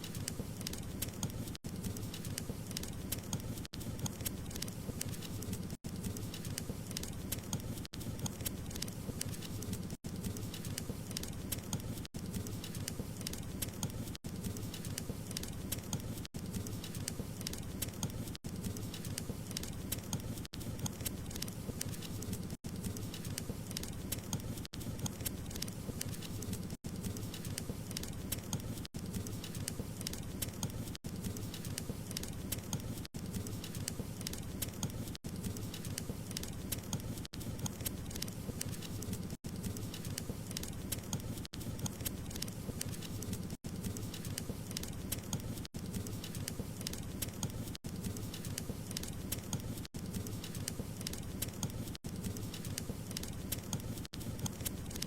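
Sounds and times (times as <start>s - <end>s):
wood fire crackling and hissing: 0.0s - 55.0s.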